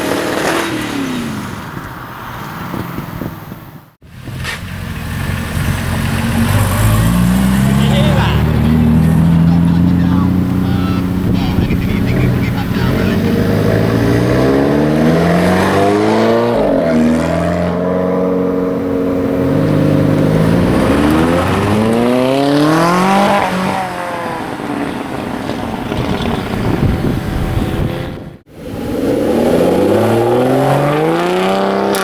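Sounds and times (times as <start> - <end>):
sports car engine accelerating: 4.2 - 32.0.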